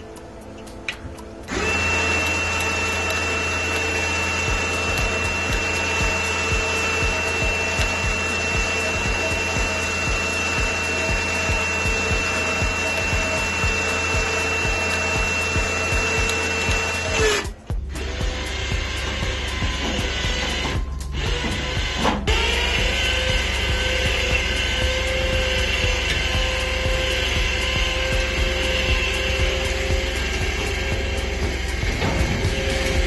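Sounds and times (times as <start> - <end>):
electric winch motor whining: 0.0 - 33.0.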